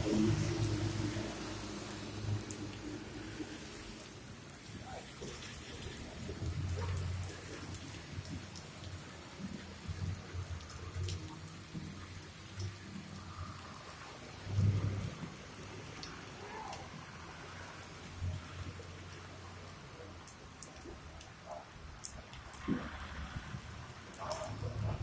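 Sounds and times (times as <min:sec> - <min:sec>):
rain falling on wet ground: 0:00.0 - 0:25.0.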